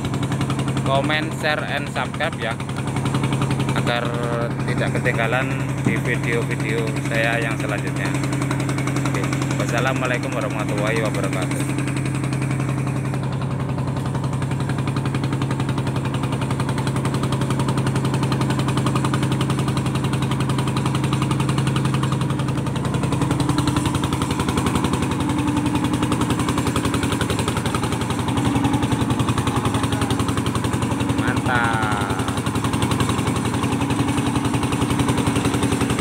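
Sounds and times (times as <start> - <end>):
boat engine chugging: 0.0 - 36.0.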